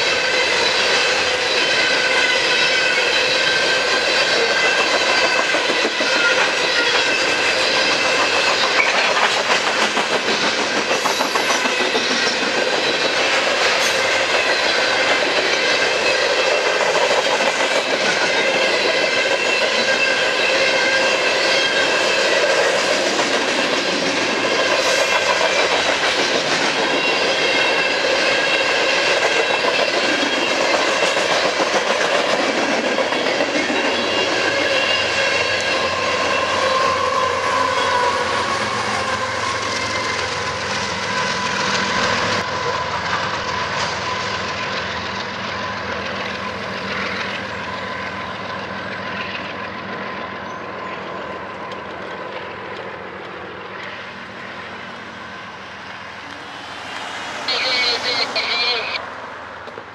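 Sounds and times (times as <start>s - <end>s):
train wheels clattering on rails: 0.0s - 55.1s.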